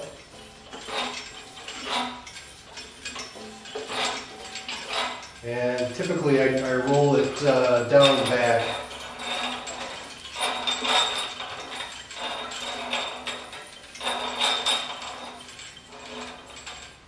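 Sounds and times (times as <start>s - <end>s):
metal tube scraping and squeaking: 0.0s - 17.0s.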